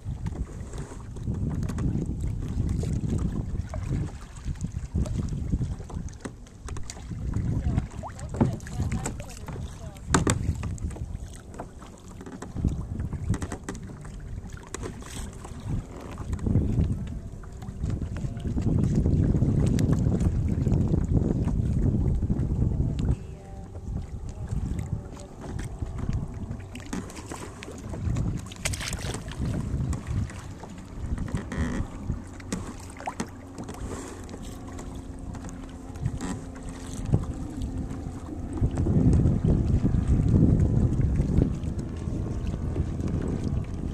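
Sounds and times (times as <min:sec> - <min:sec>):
paddle strokes in water: 0:00.0 - 0:43.9
wind buffeting microphone: 0:00.0 - 0:43.9.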